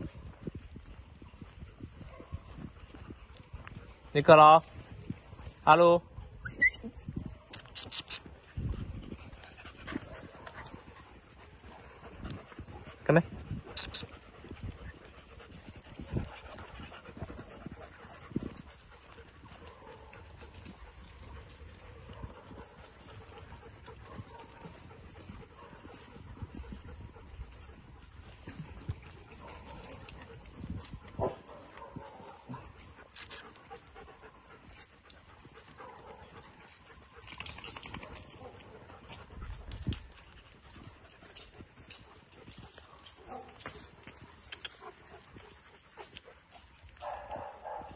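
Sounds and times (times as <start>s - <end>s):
dog footsteps on path: 0.0s - 6.4s, 7.0s - 47.9s
dogs panting: 0.0s - 47.9s.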